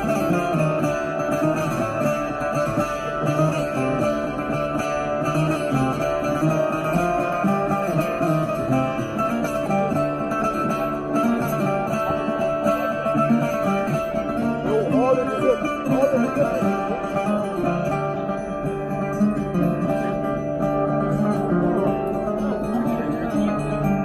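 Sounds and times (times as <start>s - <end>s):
lap steel guitar melody: 0.0s - 24.0s.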